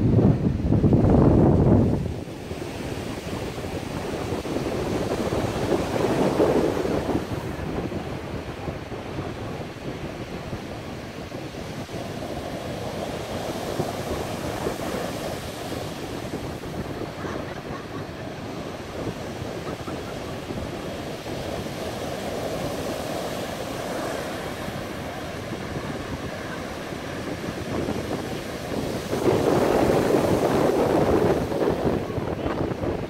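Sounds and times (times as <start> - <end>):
waves breaking on beach: 0.0 - 33.0.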